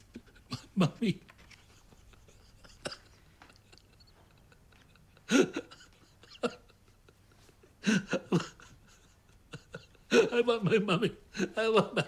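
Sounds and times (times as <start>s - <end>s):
elderly man sobbing: 0.0s - 12.0s.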